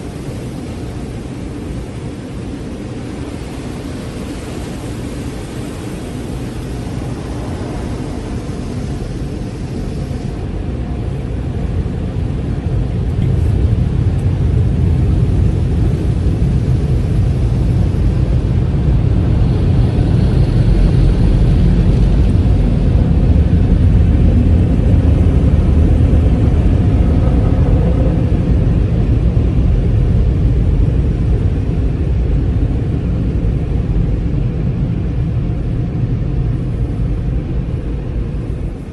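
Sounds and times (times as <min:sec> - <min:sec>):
car wash machinery running: 0:00.0 - 0:38.9.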